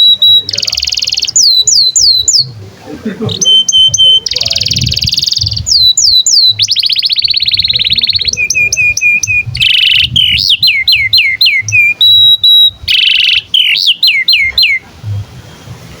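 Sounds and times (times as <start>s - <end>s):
canary singing: 0.0s - 16.0s.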